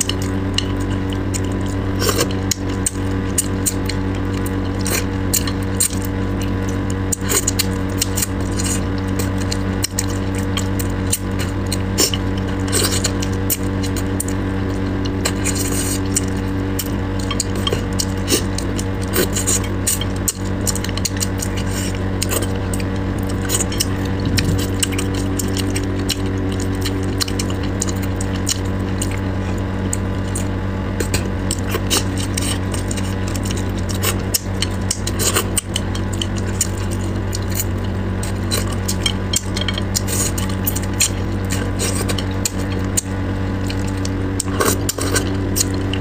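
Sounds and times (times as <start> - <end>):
chopsticks and bones clicking: 0.0 - 46.0
steady low hum: 0.0 - 46.0
wet chewing and sucking: 0.0 - 46.0.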